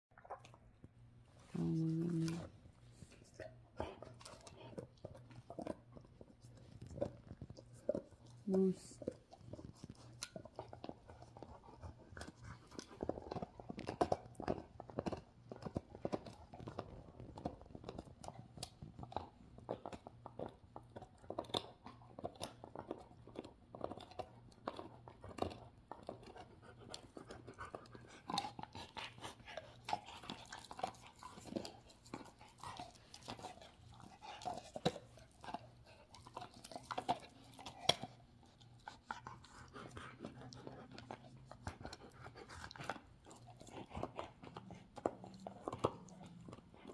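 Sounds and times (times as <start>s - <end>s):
dog gnawing a chew: 0.1s - 46.9s.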